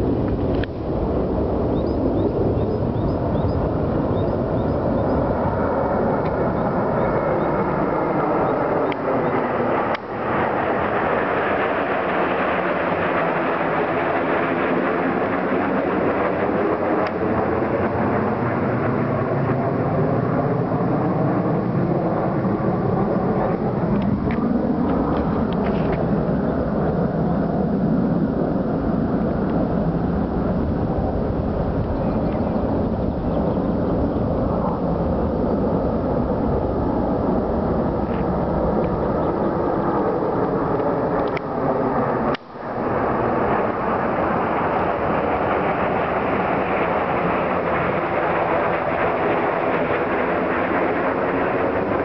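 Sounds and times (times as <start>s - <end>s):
jet engines flying over: 0.0s - 52.0s.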